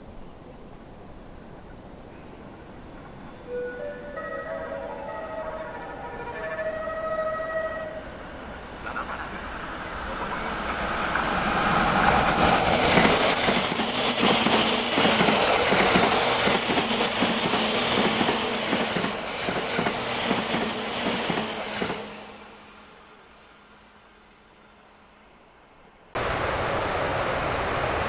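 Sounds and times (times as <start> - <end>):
electric train passing at speed: 0.0 - 28.0.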